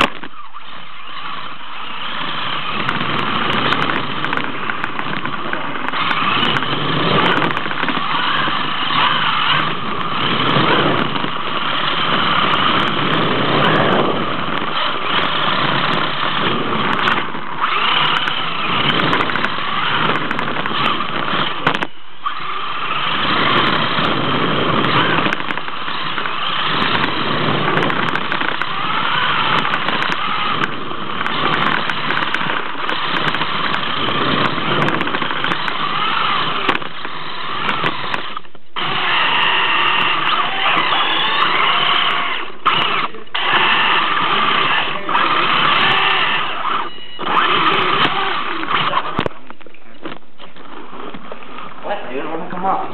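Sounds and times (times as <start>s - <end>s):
toy car motor revving: 0.0s - 52.6s.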